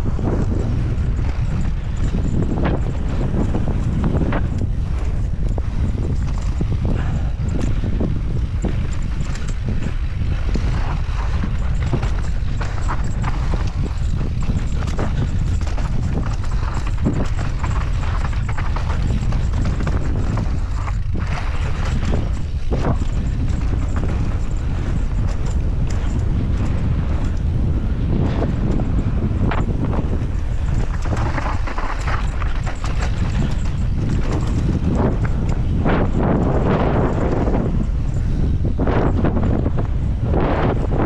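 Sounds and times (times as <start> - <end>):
bike tyres clattering on stones: 0.0 - 27.4, 28.2 - 39.2
wind buffeting microphone: 0.0 - 41.0.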